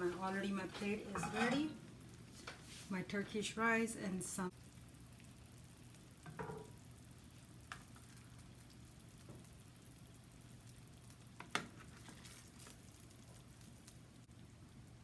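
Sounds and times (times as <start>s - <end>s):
faint steady hum and hiss: 0.0s - 15.0s.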